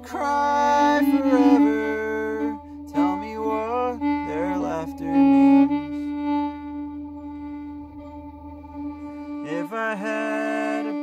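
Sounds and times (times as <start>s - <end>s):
fiddle drone note: 0.0s - 11.0s
fiddle melody: 0.0s - 11.0s.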